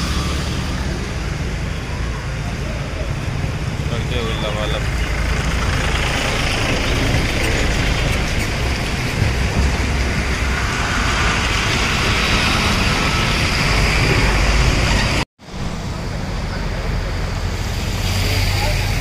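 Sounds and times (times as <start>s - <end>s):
heavy low rumble: 0.0s - 19.0s.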